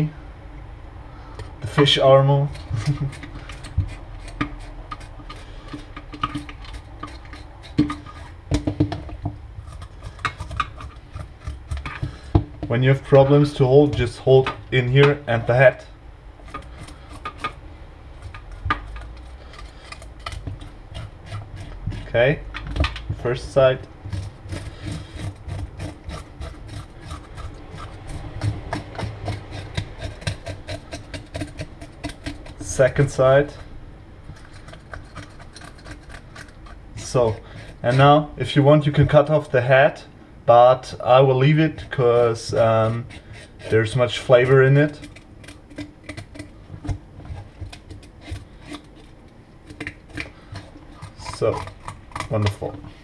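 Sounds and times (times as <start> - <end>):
knife scraping fish scales: 1.6 - 8.7, 9.6 - 15.8, 16.4 - 22.4, 23.5 - 38.6, 41.0 - 53.0.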